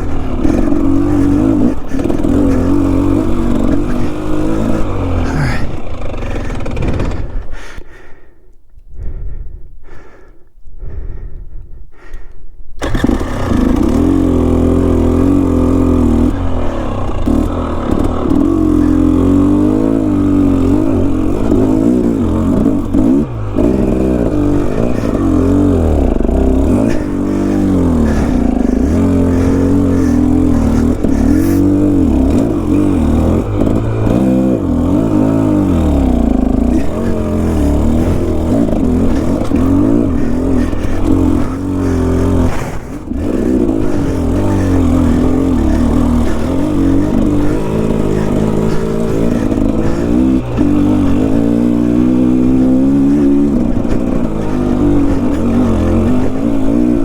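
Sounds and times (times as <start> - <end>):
motorcycle engine revving: 0.0 - 8.2, 12.8 - 57.0.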